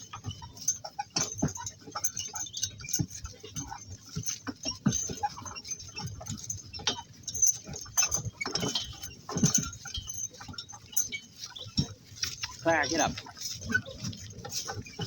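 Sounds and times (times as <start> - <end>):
harness jingling: 0.0 - 15.0
hooves and cart clopping: 0.0 - 15.0.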